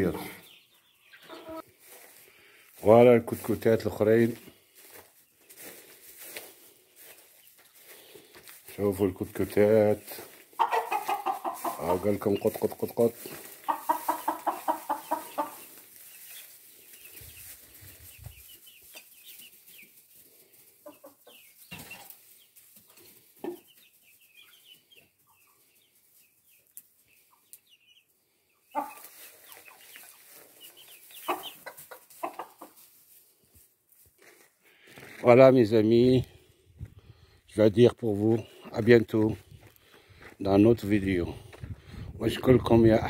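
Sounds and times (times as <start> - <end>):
chickens clucking: 0.0 - 36.2, 36.8 - 43.0.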